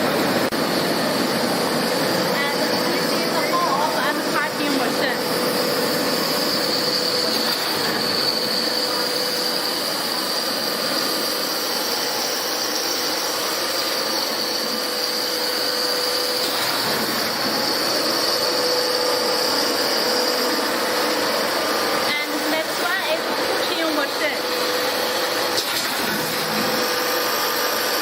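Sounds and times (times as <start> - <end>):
production line machinery whining: 0.0 - 28.0.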